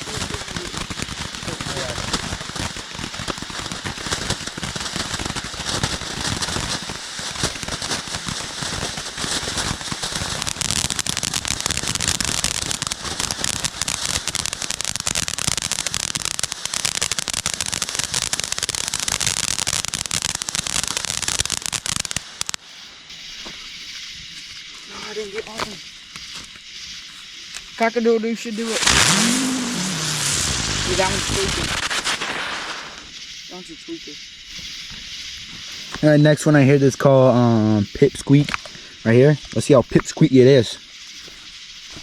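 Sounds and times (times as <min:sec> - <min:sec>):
firework crackling pops: 0:00.0 - 0:27.9, 0:28.5 - 0:42.0
firework hiss: 0:00.0 - 0:42.0.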